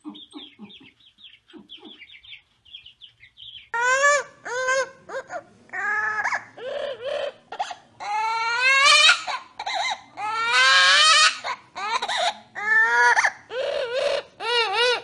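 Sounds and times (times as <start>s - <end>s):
parrot calling: 0.0s - 15.0s.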